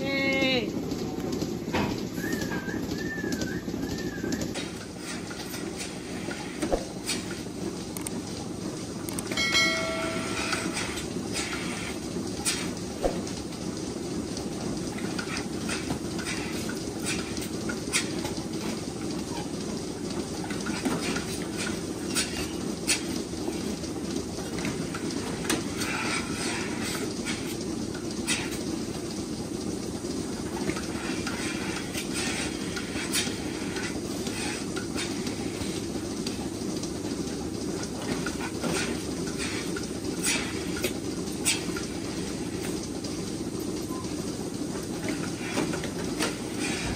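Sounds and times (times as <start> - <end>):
milking machinery rumbling: 0.0 - 46.9.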